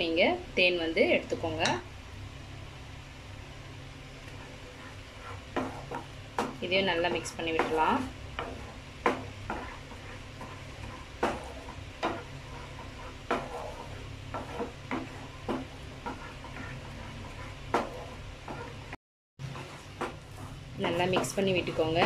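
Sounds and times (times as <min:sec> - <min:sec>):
low sizzle: 0:00.0 - 0:22.0
steady low hum: 0:00.0 - 0:22.0
spatula scraping a pan: 0:04.2 - 0:22.0.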